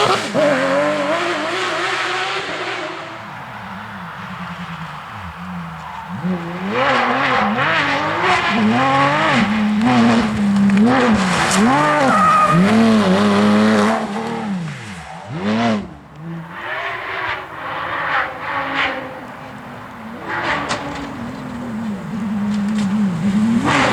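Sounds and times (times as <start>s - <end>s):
car engine revving hard: 0.0s - 23.9s.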